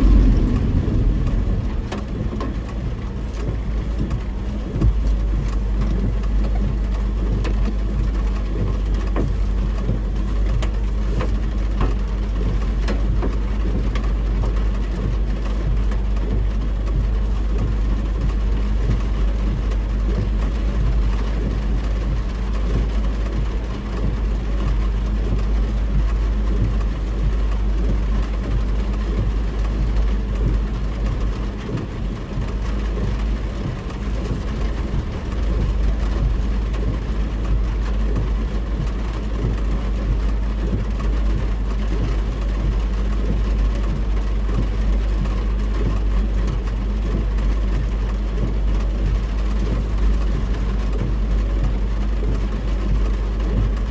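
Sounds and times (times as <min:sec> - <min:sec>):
heavy rain: 0:00.0 - 0:53.9
road and engine rumble: 0:00.0 - 0:53.9.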